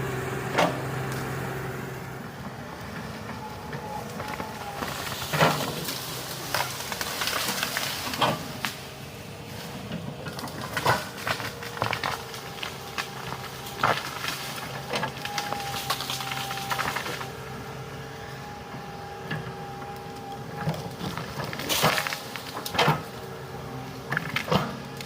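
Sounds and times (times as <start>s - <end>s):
excavator engine and hydraulic whine: 0.0s - 25.0s.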